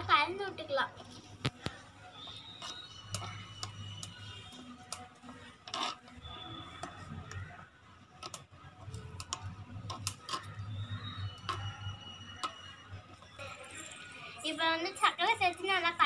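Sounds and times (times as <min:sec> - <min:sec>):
metal spoon stirring in clay pot: 0:00.0 - 0:14.6.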